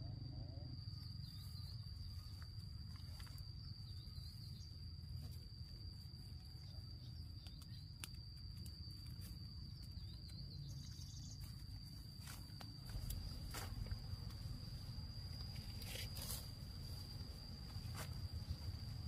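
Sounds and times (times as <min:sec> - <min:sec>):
faint outdoor background: 0:00.0 - 0:19.0
faint wavering chirps: 0:00.0 - 0:19.0
high insect drone: 0:00.0 - 0:19.0.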